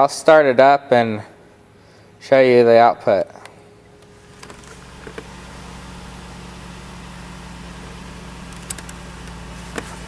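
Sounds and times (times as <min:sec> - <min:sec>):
car engine idling: 0:01.4 - 0:10.0.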